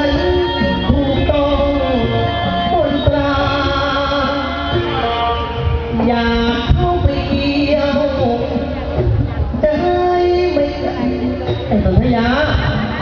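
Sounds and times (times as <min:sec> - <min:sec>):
drum strokes: 0:00.1 - 0:13.0.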